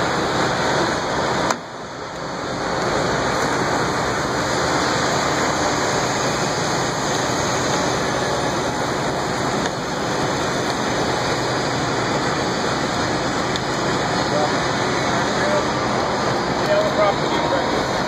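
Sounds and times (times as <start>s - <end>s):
construction site rushing noise: 0.0s - 18.0s.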